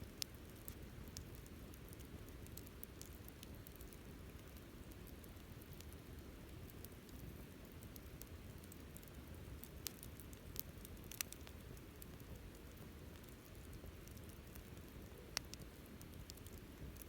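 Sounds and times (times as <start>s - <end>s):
campfire crackles and pops: 0.0s - 17.0s
faint low fire rumble: 0.0s - 17.0s.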